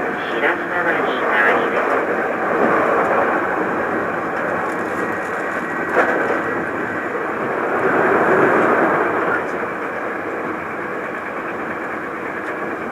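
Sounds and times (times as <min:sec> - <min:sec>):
train running rumble: 0:00.0 - 0:12.9.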